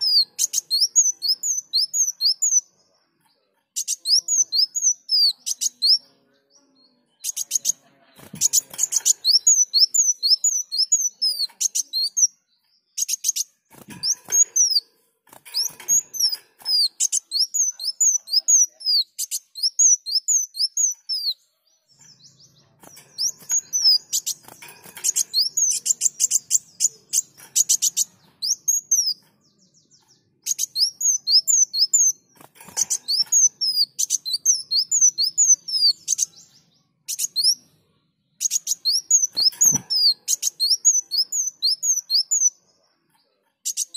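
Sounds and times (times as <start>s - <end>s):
sunbird singing: 0.0s - 42.6s.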